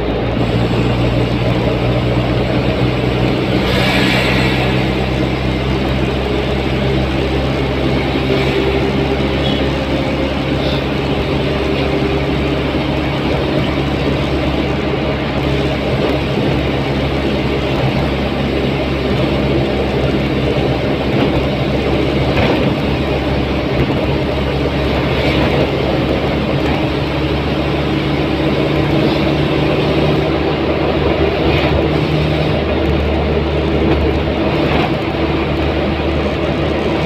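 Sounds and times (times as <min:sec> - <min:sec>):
car engine hum: 0:00.0 - 0:37.0
tyre and wind rumble: 0:00.0 - 0:37.0.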